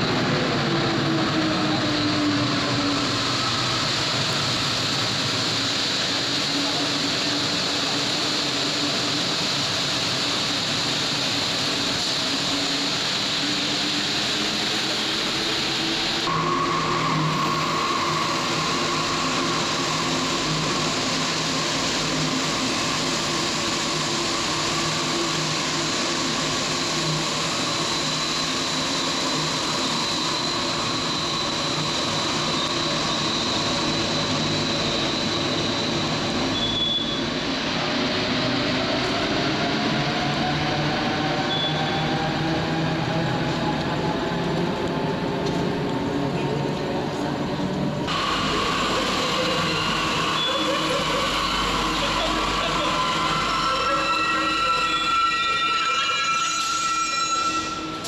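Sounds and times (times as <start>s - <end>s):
train traction motor whine: 0.0s - 58.0s.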